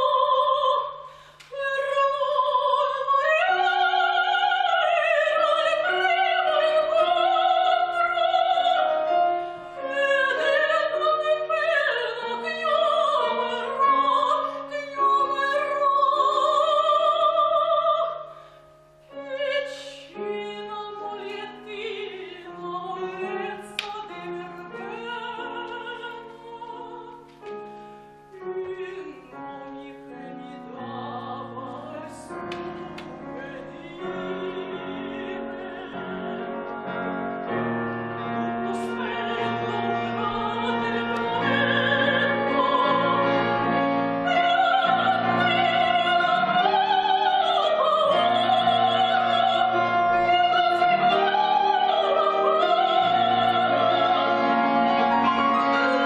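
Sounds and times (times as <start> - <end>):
piano accompaniment: 0.0 - 56.0
soprano singing: 0.0 - 56.0.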